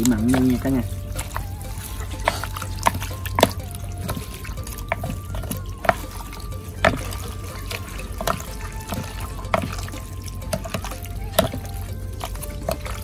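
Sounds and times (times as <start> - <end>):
wet squelching of stirred food: 0.0 - 13.0.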